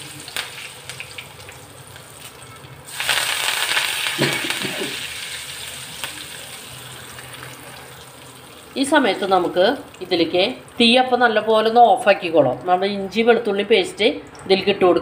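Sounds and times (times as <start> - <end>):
hot oil sizzling: 0.0 - 12.9.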